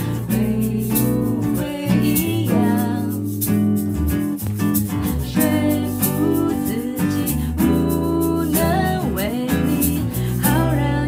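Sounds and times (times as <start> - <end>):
woman singing: 0.0 - 3.4, 5.1 - 11.0
electric bass: 0.0 - 11.0
strummed acoustic guitar: 0.0 - 11.0.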